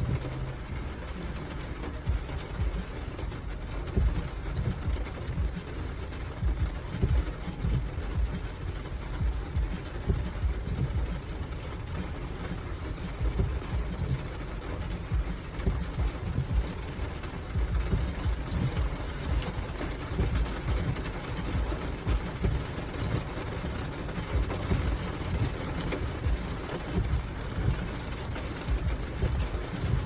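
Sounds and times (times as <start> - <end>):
low rumble: 0.0 - 30.0
rain on car windshield: 0.0 - 30.0.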